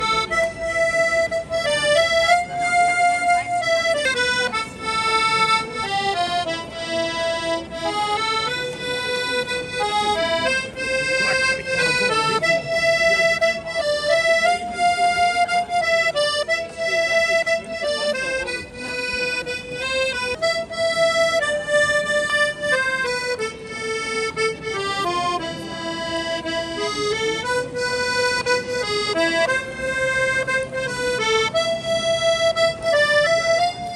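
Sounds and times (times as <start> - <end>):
instrumental melody with accompaniment: 0.0 - 33.9.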